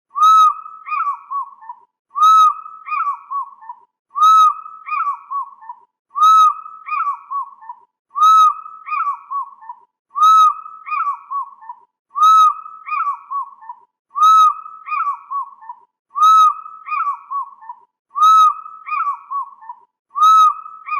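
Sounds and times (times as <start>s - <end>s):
fish eagle calling: 0.2s - 20.9s.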